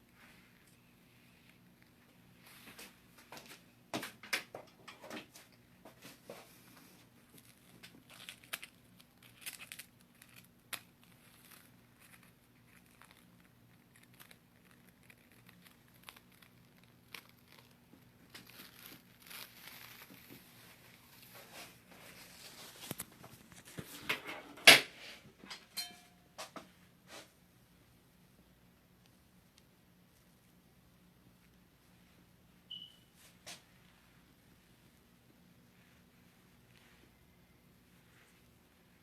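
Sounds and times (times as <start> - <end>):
crinkling and rustling handling: 0.0 - 27.4, 33.2 - 39.0.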